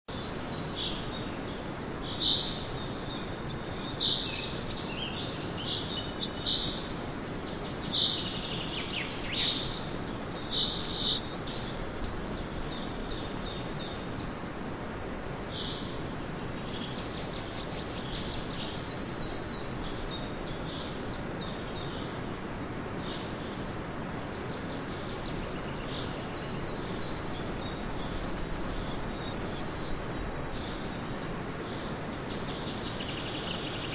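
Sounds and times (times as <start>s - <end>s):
birds chirping: 0.1s - 33.9s
steady background hiss: 0.1s - 33.9s.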